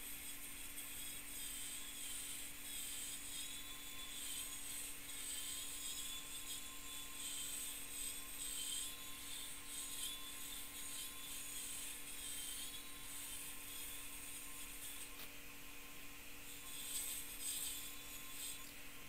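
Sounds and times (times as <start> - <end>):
mill spindle hum: 0.0 - 19.0.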